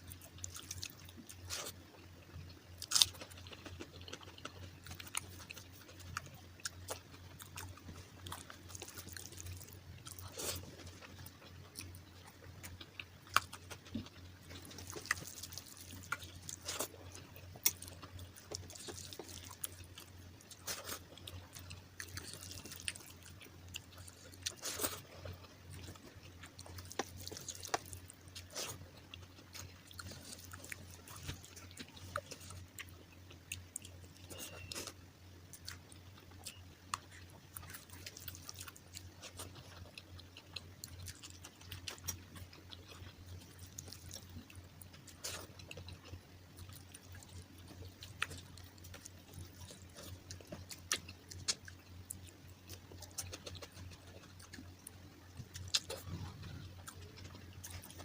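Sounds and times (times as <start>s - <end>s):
low steady hum: 0.0s - 58.0s
person chewing and smacking: 0.0s - 58.0s.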